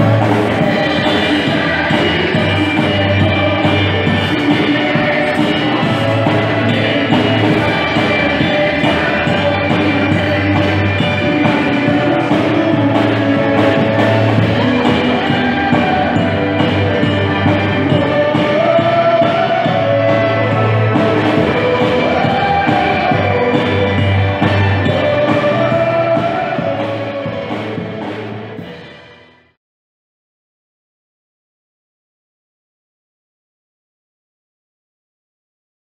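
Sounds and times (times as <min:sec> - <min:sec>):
live band playing pop ballad: 0:00.0 - 0:29.3.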